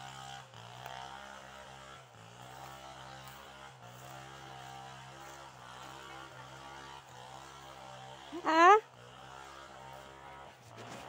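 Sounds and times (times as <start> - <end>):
faint small engine drone: 0.0 - 11.0.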